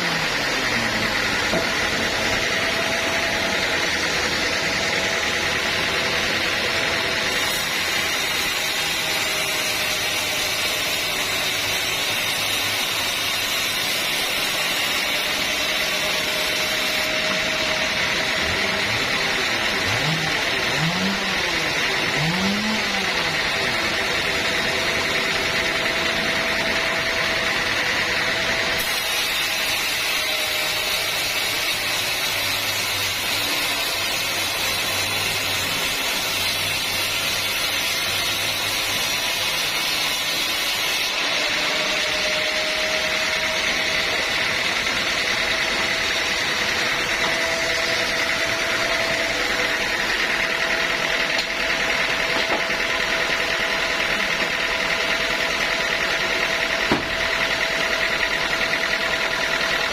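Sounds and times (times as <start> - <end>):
high-pitched saw whine: 0.0 - 59.9
sawmill machine noise: 0.0 - 59.9.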